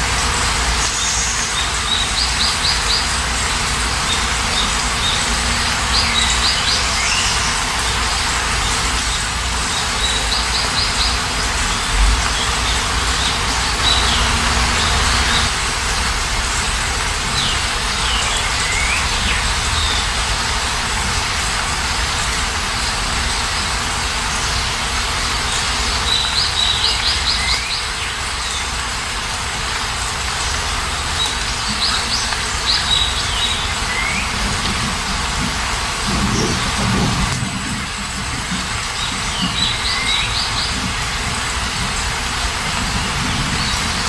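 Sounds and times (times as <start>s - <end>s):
steady rain hiss: 0.0s - 44.0s
birds chirping: 0.5s - 44.0s.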